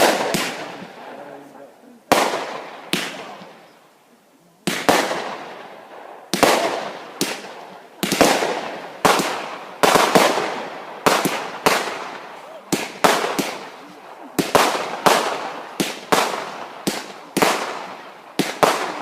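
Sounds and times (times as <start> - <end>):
fireworks bangs with echo: 0.0 - 1.5, 2.1 - 3.7, 4.6 - 19.0.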